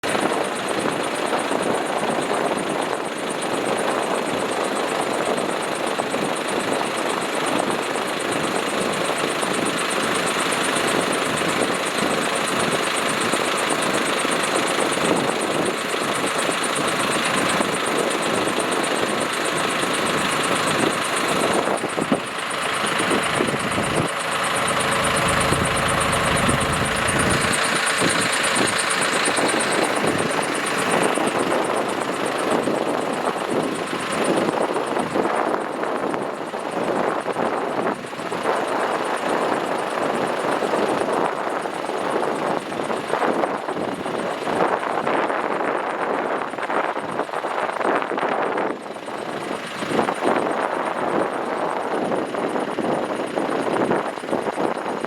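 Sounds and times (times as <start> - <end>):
diesel engine running: 0.0 - 45.2
steady whine: 0.0 - 55.0.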